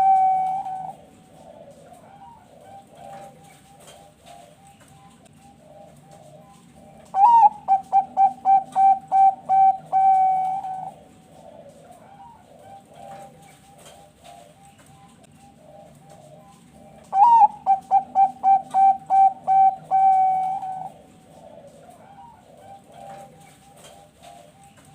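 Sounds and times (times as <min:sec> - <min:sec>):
dove cooing song: 0:00.0 - 0:24.9
faint dove cooing: 0:00.0 - 0:24.9.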